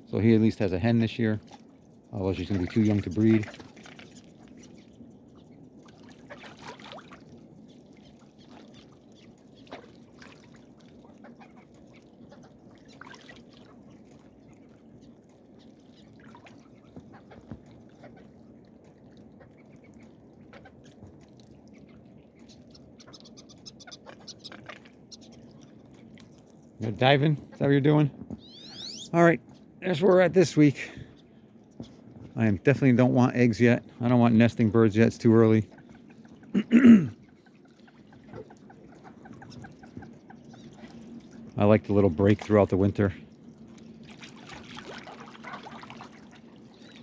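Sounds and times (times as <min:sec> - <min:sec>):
ducks calling faintly: 0:00.0 - 0:47.0
low steady background noise: 0:00.0 - 0:47.0.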